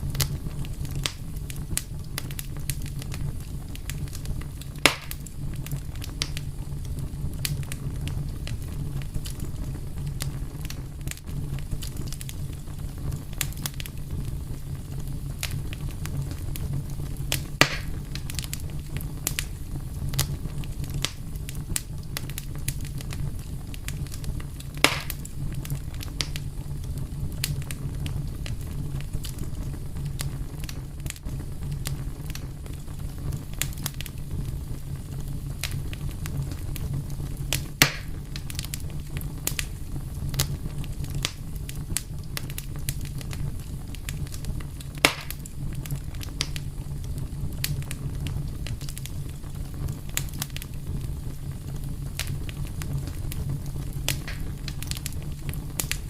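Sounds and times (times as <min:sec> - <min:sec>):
wood fire crackling and snapping: 0:00.0 - 0:56.0.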